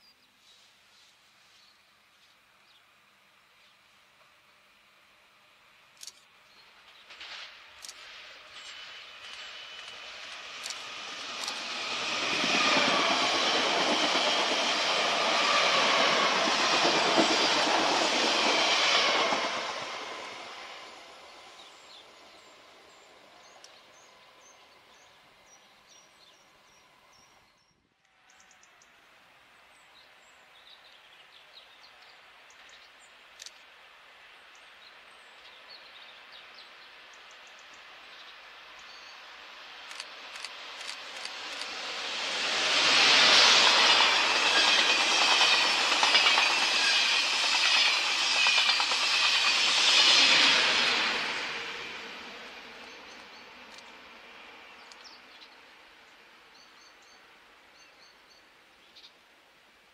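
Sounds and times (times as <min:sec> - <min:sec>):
high whine of train: 0:00.4 - 0:59.9
distant train approaching: 0:02.9 - 0:27.6, 0:28.2 - 0:59.8
train passing at speed: 0:03.0 - 0:27.6, 0:28.2 - 0:59.9.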